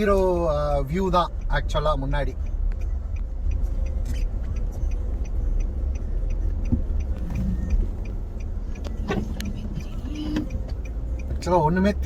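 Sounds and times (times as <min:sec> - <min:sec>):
car rumbling in motion: 0:00.0 - 0:12.0
light regular ticking: 0:00.0 - 0:12.0.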